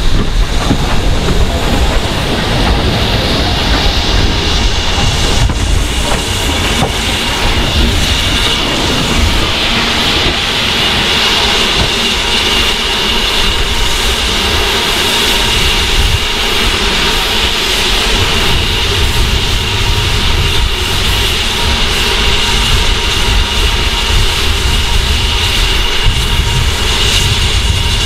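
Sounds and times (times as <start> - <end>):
steam hiss: 0.0 - 28.0
steam locomotive rumbling: 0.0 - 28.0.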